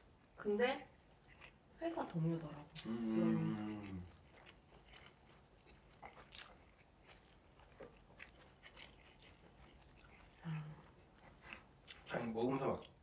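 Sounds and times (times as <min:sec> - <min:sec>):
people chewing: 0:00.8 - 0:13.0.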